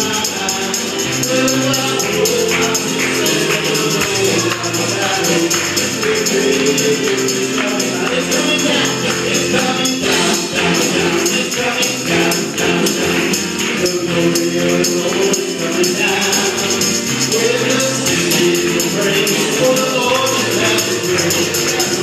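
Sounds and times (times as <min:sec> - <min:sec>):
group singing: 0:00.0 - 0:22.0
keyboard: 0:00.0 - 0:22.0
shaken percussion beat: 0:00.0 - 0:22.0.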